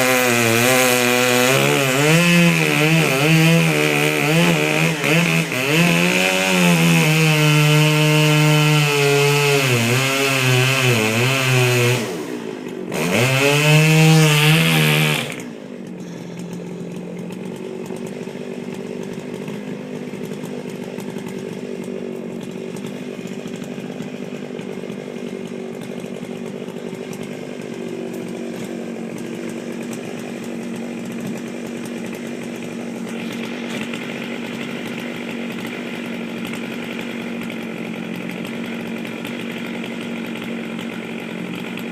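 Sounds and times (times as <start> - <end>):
chainsaw cutting wood: 0.0 - 41.9
chainsaw idling: 0.0 - 41.9.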